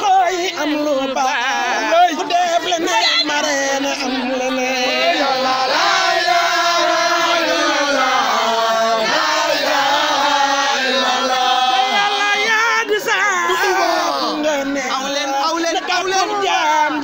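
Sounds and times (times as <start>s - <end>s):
crowd chanting in unison: 1.4s - 17.0s.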